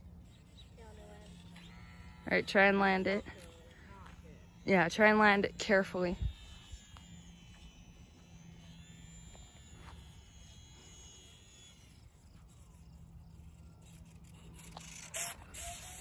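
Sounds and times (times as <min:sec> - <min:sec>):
rc plane motor whine: 0:00.0 - 0:16.0.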